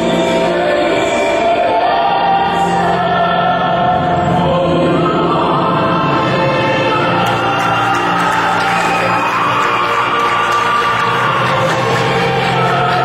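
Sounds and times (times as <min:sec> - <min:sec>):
choir singing long held notes: 0:00.0 - 0:13.0
steady musical accompaniment: 0:00.0 - 0:13.0.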